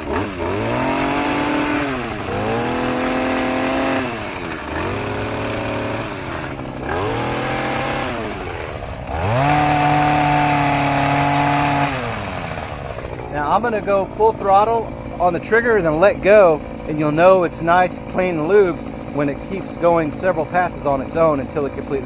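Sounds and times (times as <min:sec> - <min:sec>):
hedge trimmer engine revving: 0:00.0 - 0:22.0.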